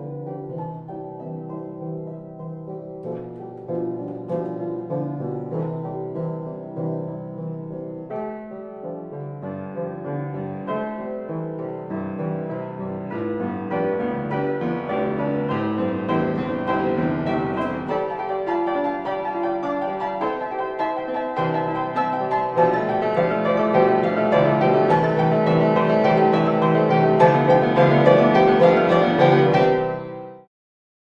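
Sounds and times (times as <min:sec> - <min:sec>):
classical piano music: 0:00.0 - 0:30.5.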